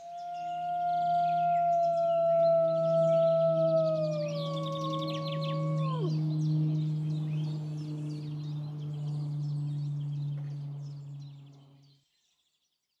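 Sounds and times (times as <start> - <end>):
steady low hum: 0.0 - 12.0
songbirds chirping: 0.0 - 12.7.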